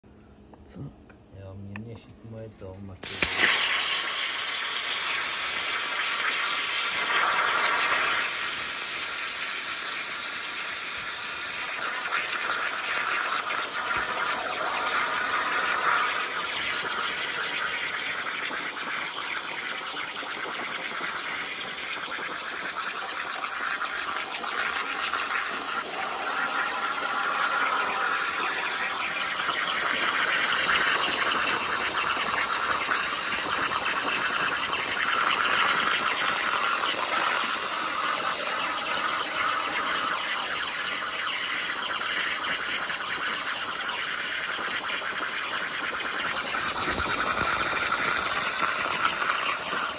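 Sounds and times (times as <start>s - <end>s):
plasma torch crackling hiss: 2.4s - 49.9s.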